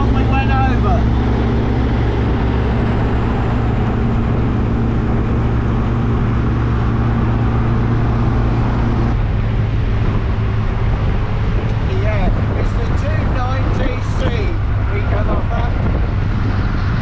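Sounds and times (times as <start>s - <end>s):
sports car engine running: 0.0s - 17.0s
wind and road noise: 0.0s - 17.0s.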